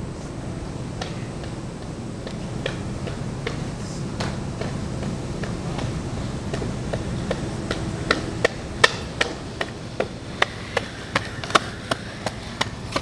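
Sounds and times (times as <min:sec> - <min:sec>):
skateboard wheels rumbling: 0:00.0 - 0:13.0.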